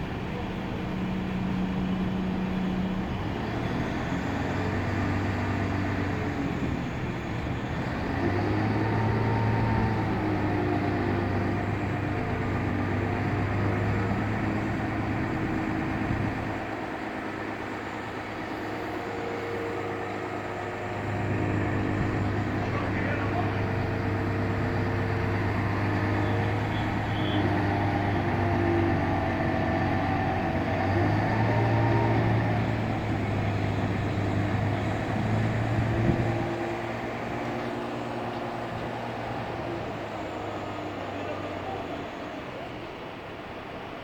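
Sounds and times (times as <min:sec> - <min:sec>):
diesel engine humming: 0:00.0 - 0:44.0.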